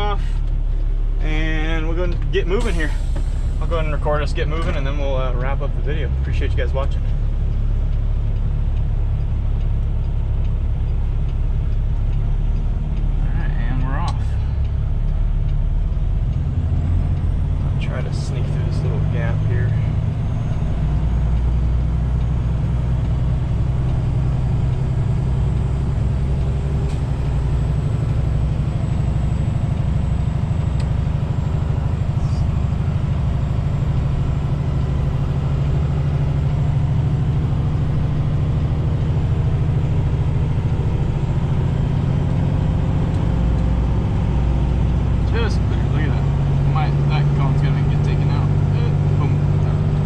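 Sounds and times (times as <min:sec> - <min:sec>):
diesel engine under load: 0:00.0 - 0:50.0.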